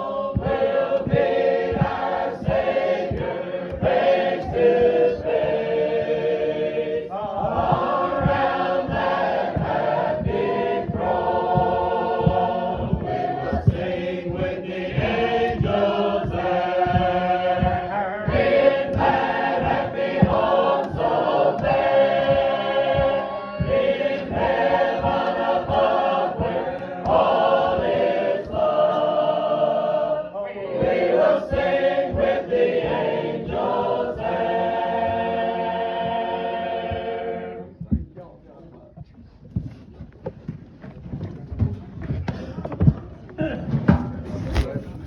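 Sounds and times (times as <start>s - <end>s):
group singing a hymn: 0.0s - 37.9s.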